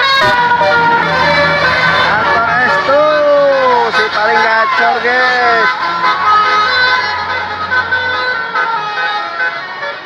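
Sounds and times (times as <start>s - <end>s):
air horns playing a tune: 0.0s - 10.0s.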